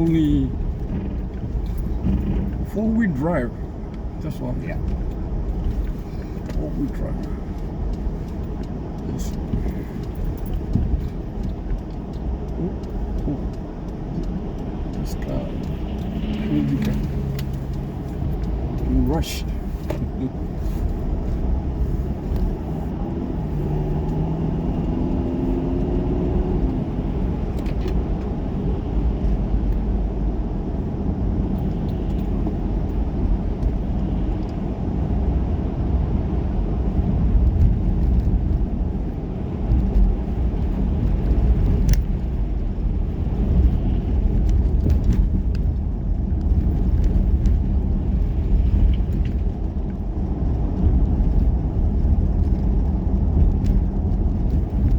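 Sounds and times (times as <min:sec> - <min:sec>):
car engine rumbling: 0:00.0 - 0:54.9.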